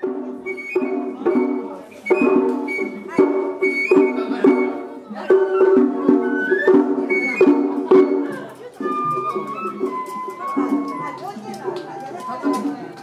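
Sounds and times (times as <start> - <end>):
plucked string melody: 0.0 - 13.0.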